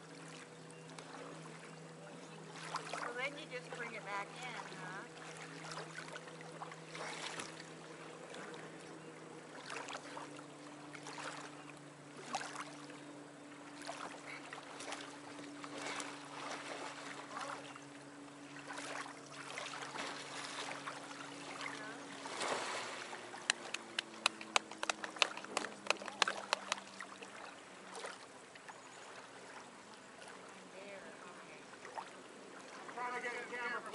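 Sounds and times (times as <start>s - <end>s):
steady low hum: 0.0s - 33.9s
water splashing and sloshing: 0.0s - 33.9s.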